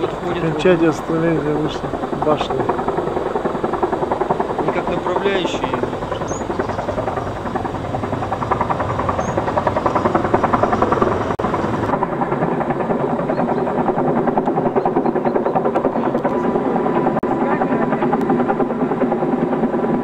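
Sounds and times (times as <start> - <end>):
helicopter rotor blades beating: 0.0 - 20.0.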